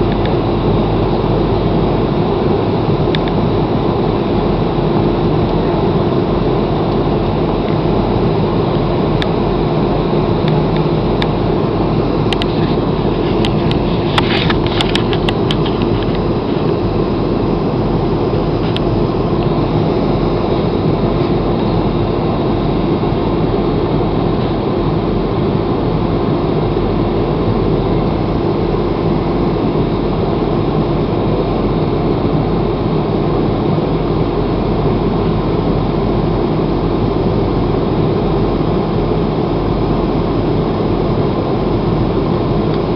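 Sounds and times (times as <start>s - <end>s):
airliner cabin engine noise: 0.0s - 42.9s.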